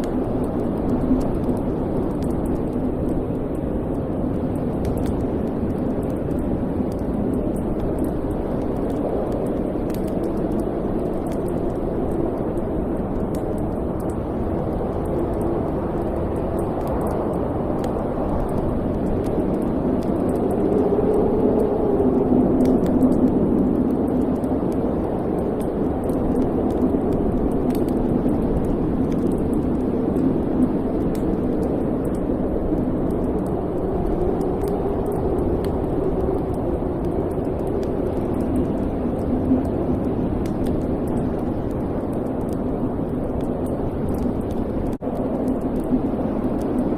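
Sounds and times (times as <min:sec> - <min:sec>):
fire crackles: 0:00.0 - 0:46.9
low fire rumble: 0:00.0 - 0:46.9.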